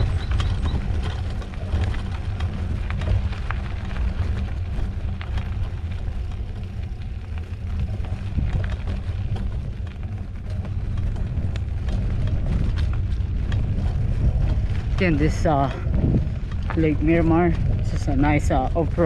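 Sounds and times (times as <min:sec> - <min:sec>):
bike tyres clicking and rattling: 0:00.0 - 0:19.0
wind buffeting microphone: 0:00.0 - 0:19.0.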